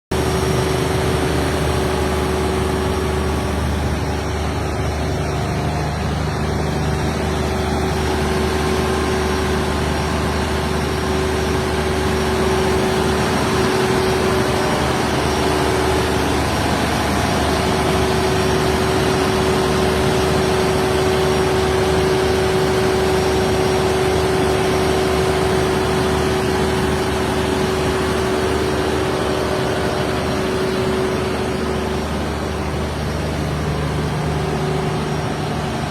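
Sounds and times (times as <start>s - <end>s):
diesel generator running: 0.1s - 35.9s
steady hum: 0.1s - 35.9s.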